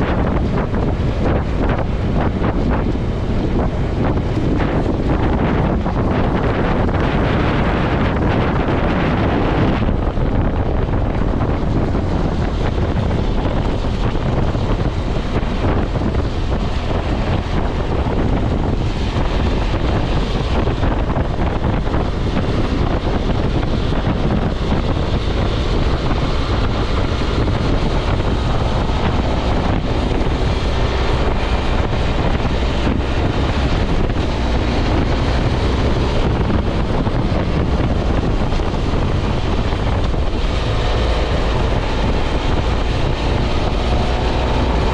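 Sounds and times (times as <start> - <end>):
motorcycle engine running: 0.0 - 44.9
wind rushing over microphone: 0.0 - 44.9.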